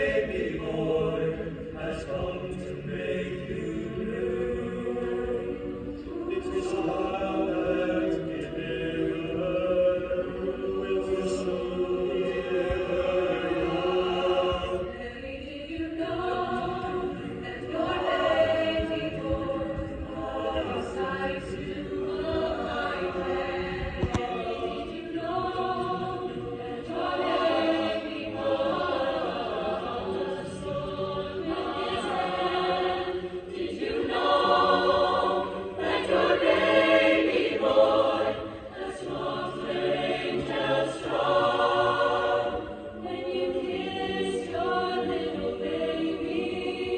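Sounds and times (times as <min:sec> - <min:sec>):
choir singing: 0:00.0 - 0:46.9.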